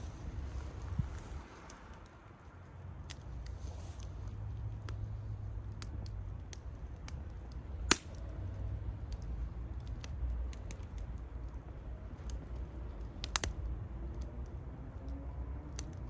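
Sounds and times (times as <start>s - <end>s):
fire popping: 0.0s - 16.0s
steady low rumble: 0.0s - 16.0s
wood bonfire crackling: 0.0s - 16.0s.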